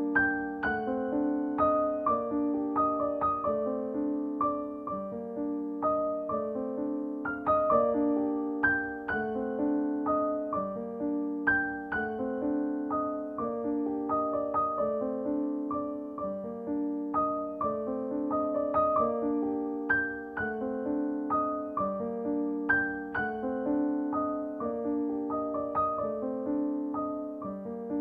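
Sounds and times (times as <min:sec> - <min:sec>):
slow piano music: 0:00.0 - 0:28.0.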